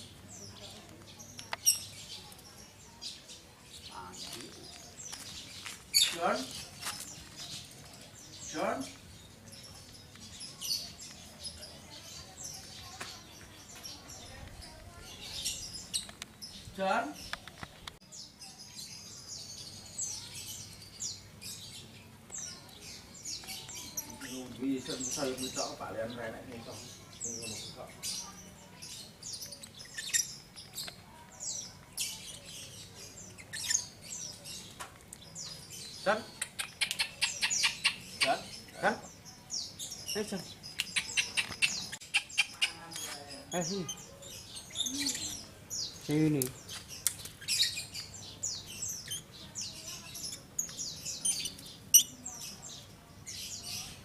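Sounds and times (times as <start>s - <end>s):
birds chirping high-pitched: 0.0s - 54.0s.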